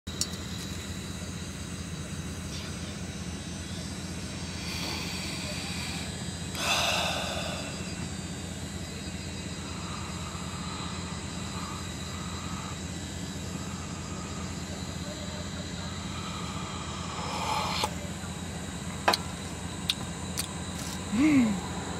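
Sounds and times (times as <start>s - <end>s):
car cabin hum: 0.2s - 21.9s.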